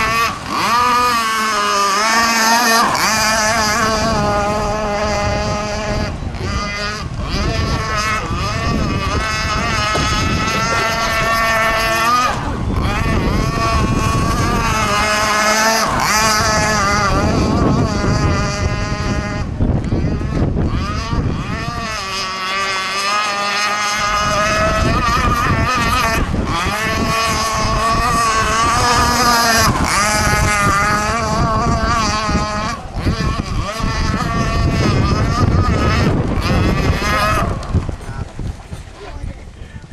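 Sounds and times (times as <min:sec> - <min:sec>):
model boat engine high revs: 0:00.0 - 0:39.3.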